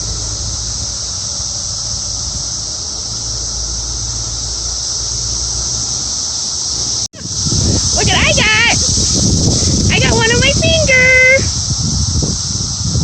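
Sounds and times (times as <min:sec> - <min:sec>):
cicadas buzzing: 0:00.0 - 0:13.0
low rumble: 0:00.0 - 0:13.0.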